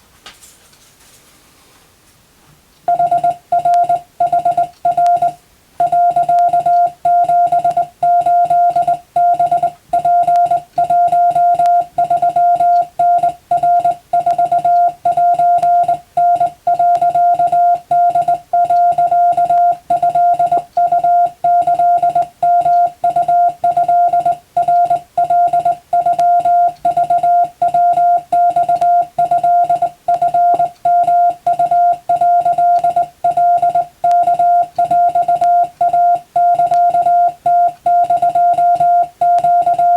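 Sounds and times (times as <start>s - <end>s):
morse code beeps: 2.9s - 39.9s.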